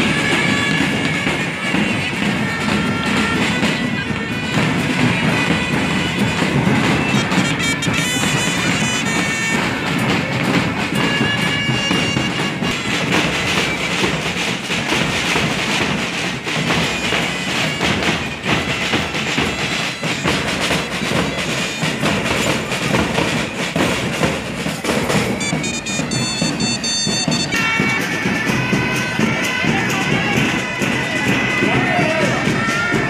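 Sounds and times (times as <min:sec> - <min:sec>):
bass and snare drums: 0:00.0 - 0:33.0
shrill flutes playing tune: 0:00.0 - 0:33.0.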